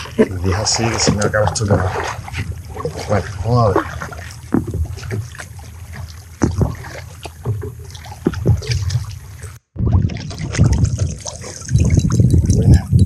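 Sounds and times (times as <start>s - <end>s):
paddle splashing in water: 0.0s - 12.9s.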